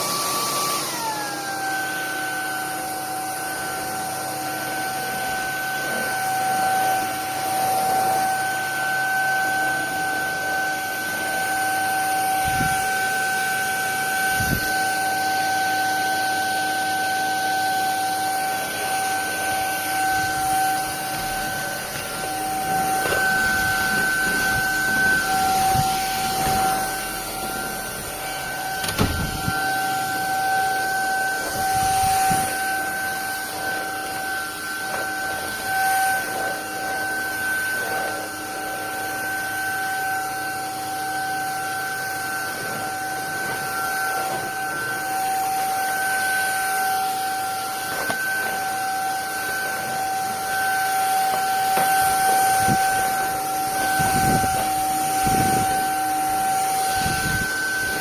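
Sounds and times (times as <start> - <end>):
stick vacuum running: 0.0 - 58.0.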